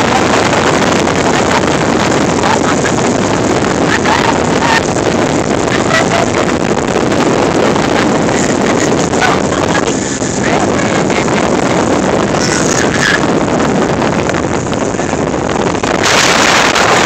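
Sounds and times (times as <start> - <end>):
boat rushing through water: 0.0 - 17.0
wind buffeting microphone: 0.0 - 17.0.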